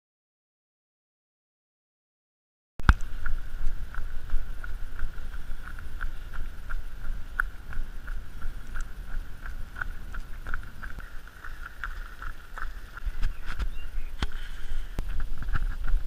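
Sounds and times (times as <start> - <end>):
running footsteps on gravel: 2.8 - 16.0
wind rumble on microphone: 2.8 - 16.0.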